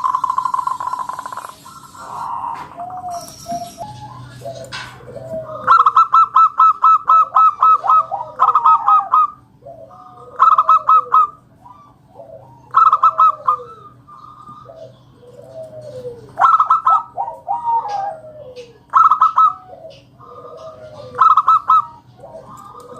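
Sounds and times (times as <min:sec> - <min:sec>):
dove singing rapid notes: 0:00.0 - 0:22.9
low arching dove coos: 0:00.0 - 0:22.9.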